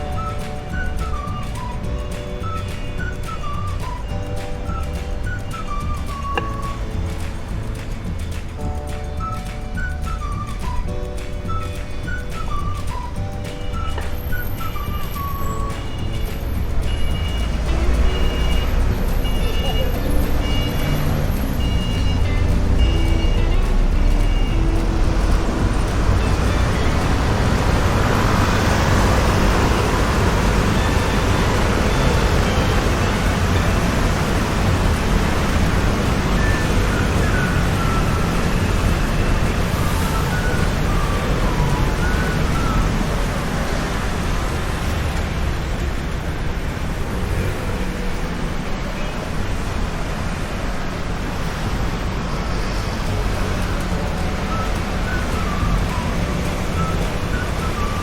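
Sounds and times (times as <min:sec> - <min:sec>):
heavy road traffic with scooters: 0:00.0 - 0:58.0.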